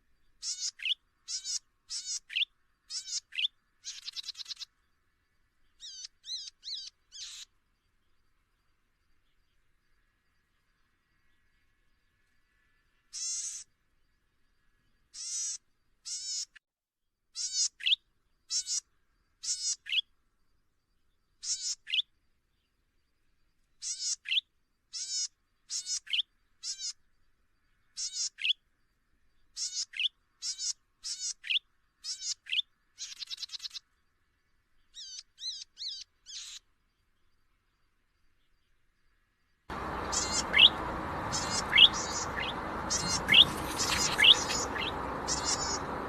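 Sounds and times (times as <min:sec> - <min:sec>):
songbird chirping: 0:00.0 - 0:16.5, 0:17.4 - 0:46.0.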